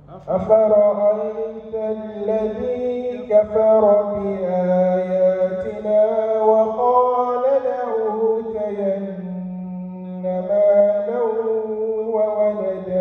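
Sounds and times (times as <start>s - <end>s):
young man chanting melodically: 0.0s - 13.0s.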